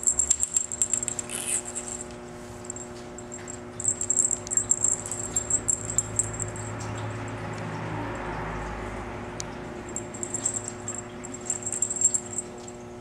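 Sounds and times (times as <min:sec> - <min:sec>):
kitten scratching and rattling toy: 0:00.0 - 0:08.3, 0:09.8 - 0:12.8
steady low hum: 0:00.0 - 0:13.0.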